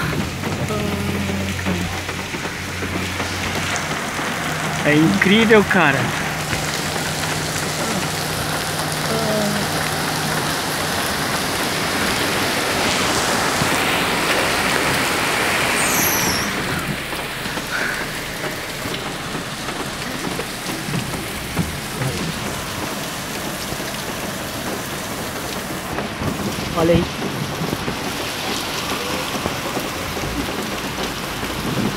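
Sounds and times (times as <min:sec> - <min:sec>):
heavy rain: 0:00.0 - 0:31.9
water splashing down: 0:00.0 - 0:31.9.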